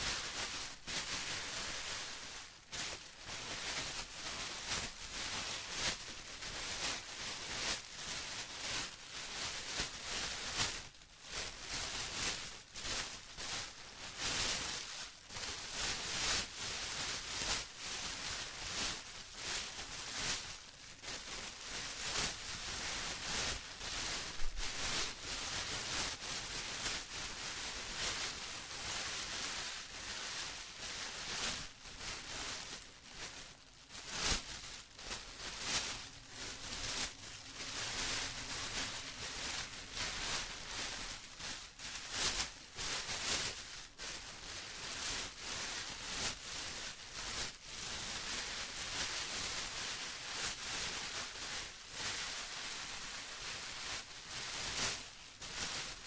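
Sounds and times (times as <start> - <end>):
plastic rustling and crinkling: 0.0 - 56.0.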